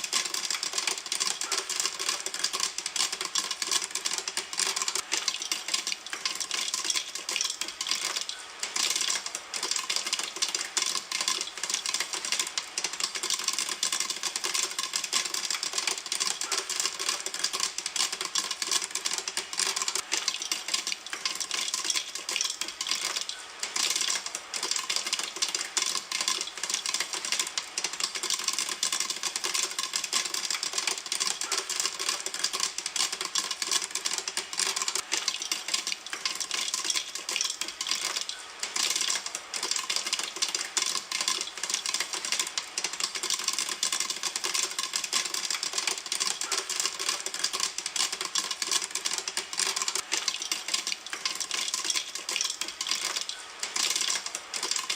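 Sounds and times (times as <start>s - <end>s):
popcorn popping in a pan: 0.0s - 54.9s.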